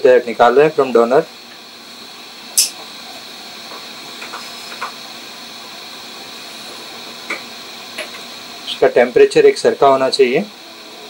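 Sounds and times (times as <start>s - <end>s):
hot air blower hissing: 0.0s - 11.0s.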